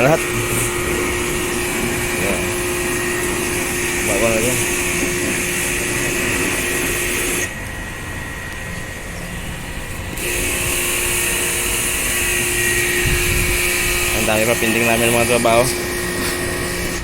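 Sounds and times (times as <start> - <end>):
motor whine and hiss: 0.0 - 17.0
steady hum: 0.0 - 17.0.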